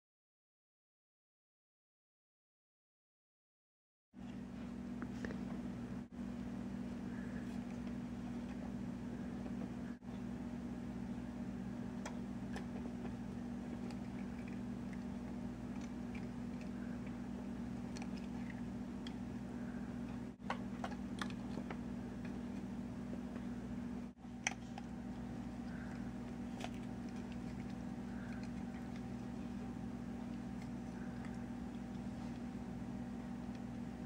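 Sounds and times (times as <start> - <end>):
low mechanical hum: 4.2 - 34.0.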